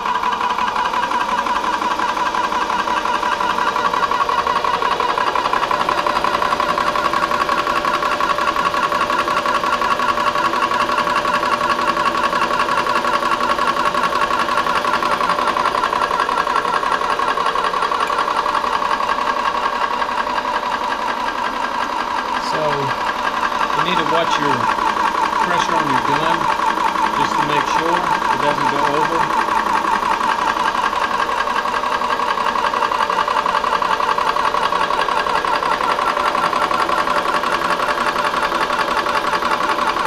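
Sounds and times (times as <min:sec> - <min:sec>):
air compressor pulsing hum: 0:00.0 - 0:40.0.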